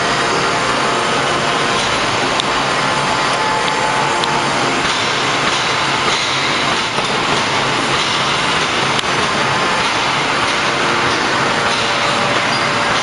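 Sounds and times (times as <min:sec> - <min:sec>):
forging press machinery noise: 0:00.0 - 0:13.0.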